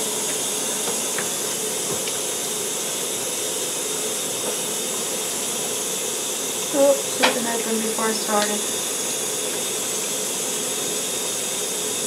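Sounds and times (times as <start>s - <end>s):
water running from bathtub tap: 0.0s - 12.0s.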